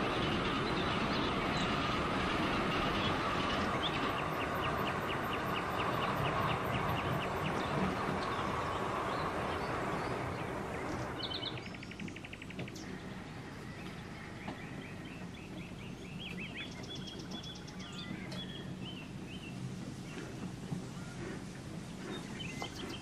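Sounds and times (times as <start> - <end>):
birds chirping and trilling: 0.0 - 23.0
passing train: 0.0 - 23.0
steady low rumble: 0.0 - 23.0.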